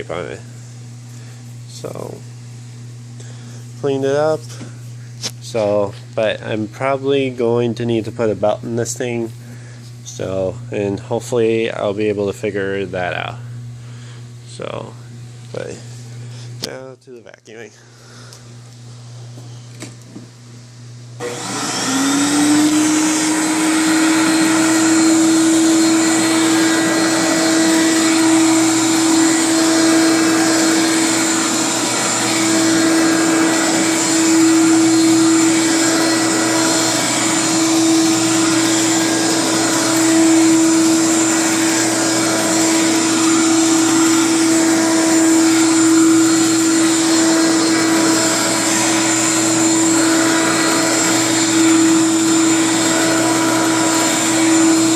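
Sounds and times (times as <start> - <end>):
vacuum cleaner motor whining: 0.0 - 13.4, 18.1 - 54.9.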